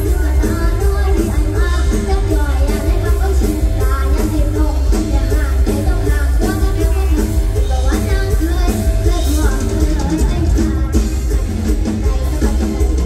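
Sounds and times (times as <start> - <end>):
live band with heavy bass: 0.0 - 13.0
person singing: 0.0 - 13.0.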